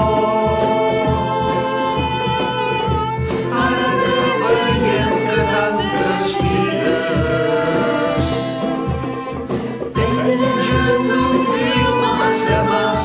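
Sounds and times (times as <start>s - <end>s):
accordion: 0.0s - 13.0s
cajon beat: 0.0s - 13.0s
clarinet: 0.0s - 13.0s
group of voices singing: 0.0s - 13.0s
guitar: 0.0s - 13.0s
violin: 0.0s - 13.0s.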